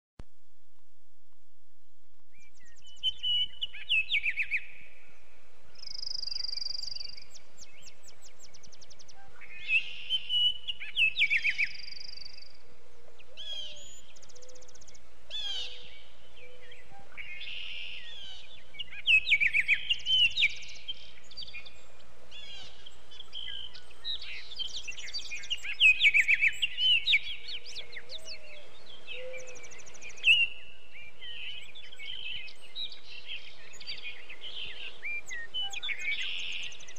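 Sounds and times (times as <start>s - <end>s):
faint background hiss: 0.2s - 36.9s
songbirds singing: 2.2s - 36.9s.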